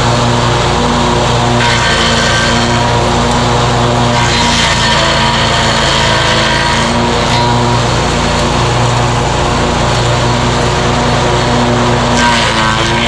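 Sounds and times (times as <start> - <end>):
blades grinding wood: 0.0 - 13.0
mower running: 0.0 - 13.0.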